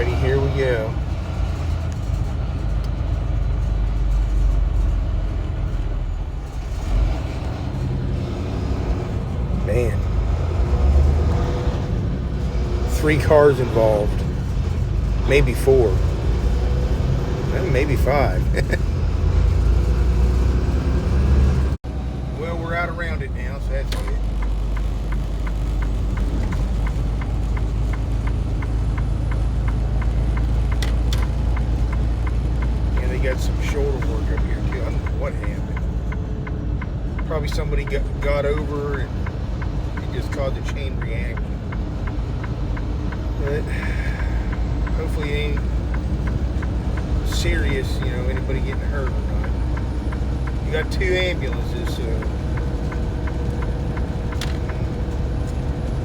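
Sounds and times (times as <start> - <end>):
turn signal ticking: 0.0 - 5.8, 6.7 - 56.0
truck diesel engine rumble: 0.0 - 56.0.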